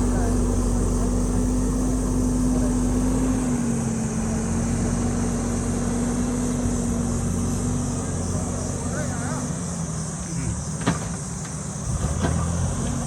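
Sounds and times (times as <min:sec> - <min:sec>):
backhoe diesel engine running: 0:00.0 - 0:13.0.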